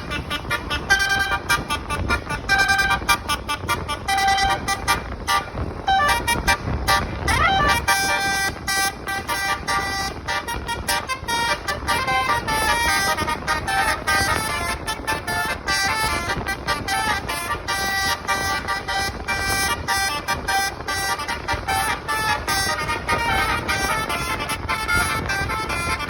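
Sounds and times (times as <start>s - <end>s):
bus musical horn playing tune: 0.0s - 26.0s.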